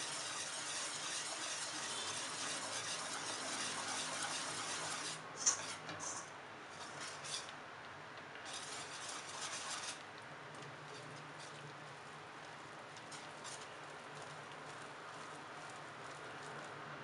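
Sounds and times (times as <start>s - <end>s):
whisk beating in metal bowl: 0.0s - 7.5s, 8.4s - 16.8s.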